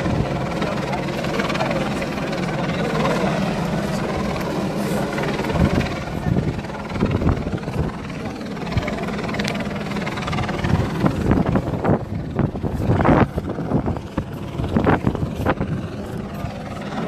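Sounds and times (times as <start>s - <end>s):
outdoor crowd noise: 0.0s - 17.0s
steady low rumble: 0.0s - 17.0s.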